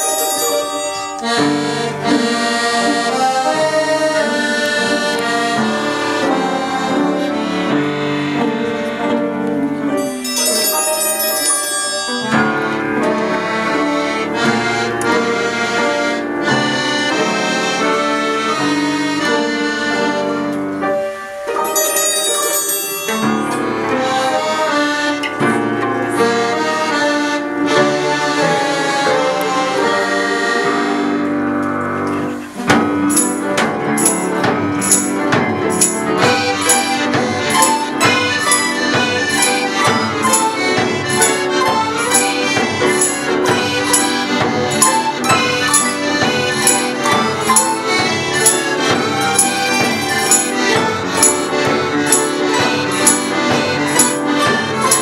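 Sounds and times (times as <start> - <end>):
orchestra playing: 0.0 - 55.0.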